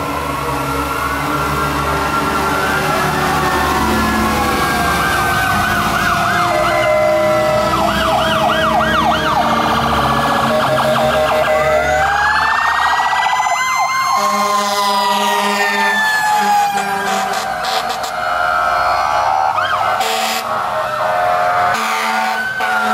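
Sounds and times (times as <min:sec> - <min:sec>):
electronic sirens yelping: 0:00.0 - 0:22.9
slow siren wail: 0:00.0 - 0:22.9.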